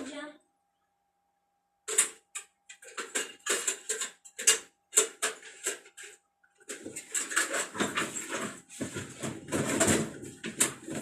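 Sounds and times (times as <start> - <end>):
electronic devices clattering: 1.8 - 11.0.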